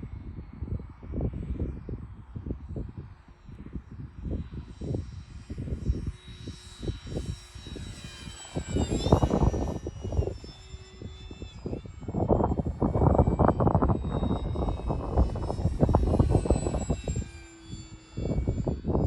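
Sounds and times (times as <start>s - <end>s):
wind rumbling on microphone: 0.0s - 19.0s
model plane motor whining: 0.3s - 19.0s.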